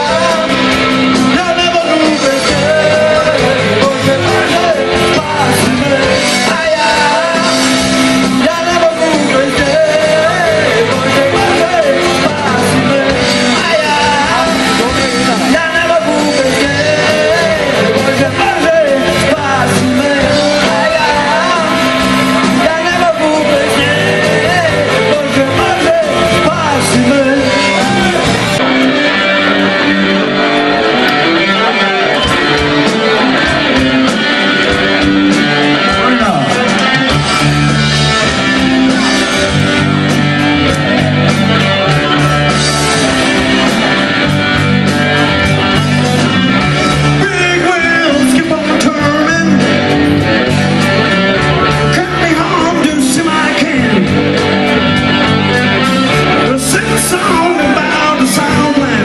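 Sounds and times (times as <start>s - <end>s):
bass line: 0.0s - 59.0s
drums: 0.0s - 59.0s
electric guitar: 0.0s - 59.0s.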